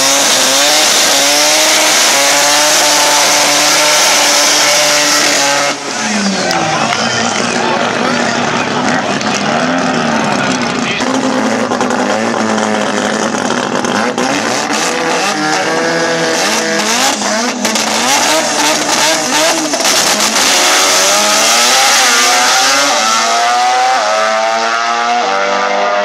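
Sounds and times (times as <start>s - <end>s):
drag car engine revving: 0.0s - 26.0s.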